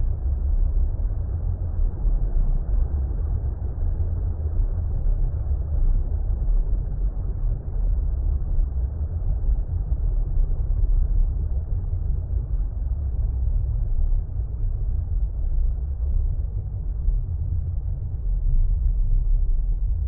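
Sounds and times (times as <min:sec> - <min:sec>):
underwater water rumble: 0:00.0 - 0:20.0.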